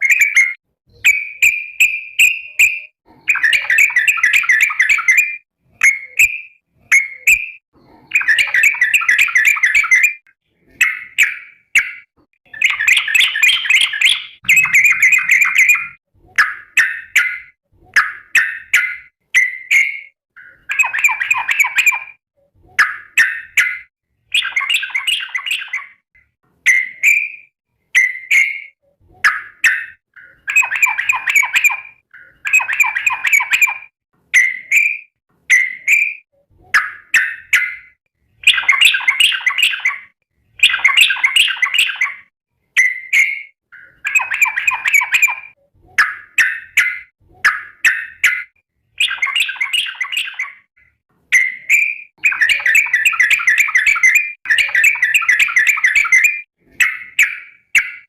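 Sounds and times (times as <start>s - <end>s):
bird singing bubbly phrases: 0.0s - 22.2s, 24.3s - 26.0s, 28.0s - 34.9s, 36.7s - 50.7s, 51.3s - 58.0s.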